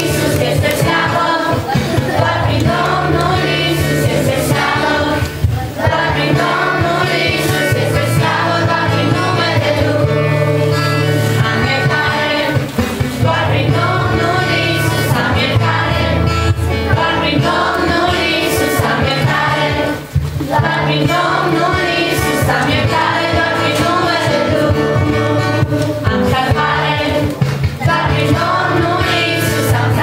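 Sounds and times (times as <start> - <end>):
group singing worship song: 0.0 - 30.0
instrumental accompaniment: 0.0 - 30.0.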